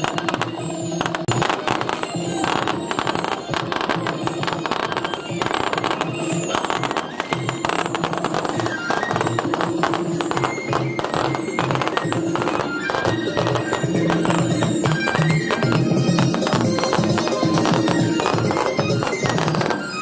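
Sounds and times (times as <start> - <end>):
fireworks crackling and popping: 0.0 - 20.0
music playing: 0.0 - 20.0.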